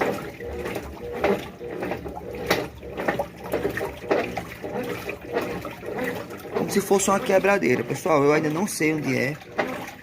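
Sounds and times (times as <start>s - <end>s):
water sloshing in washing machine: 0.0s - 10.0s.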